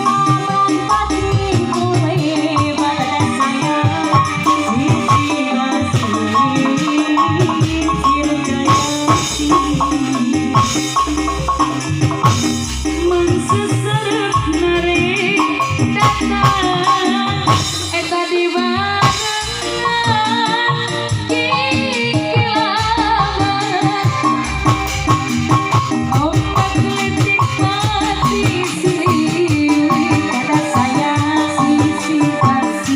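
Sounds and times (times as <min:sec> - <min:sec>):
live instrumental band music: 0:00.0 - 0:32.9.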